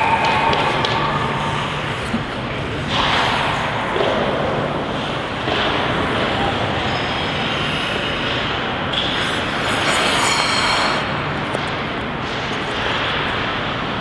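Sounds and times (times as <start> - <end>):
ice arena background noise: 0.0 - 14.0.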